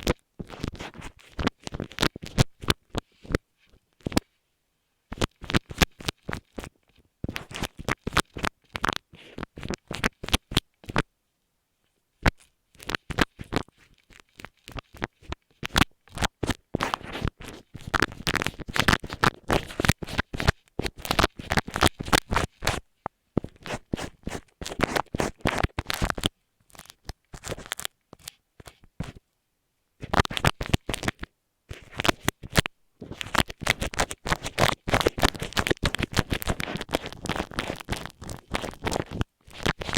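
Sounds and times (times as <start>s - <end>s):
scratching against microphone: 0.0s - 4.4s, 5.1s - 11.1s, 12.2s - 29.2s, 30.0s - 39.9s.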